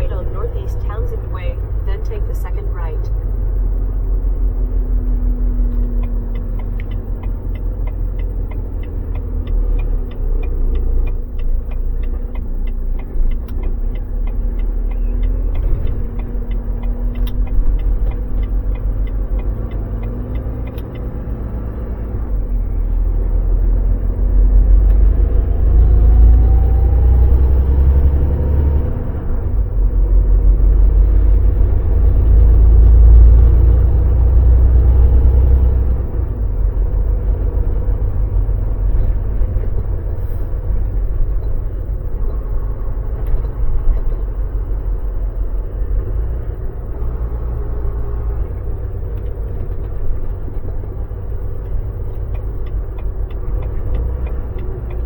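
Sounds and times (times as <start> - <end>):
turn signal clicking: 0.0 - 3.5, 4.1 - 55.0
diesel truck engine rumbling: 0.0 - 55.0.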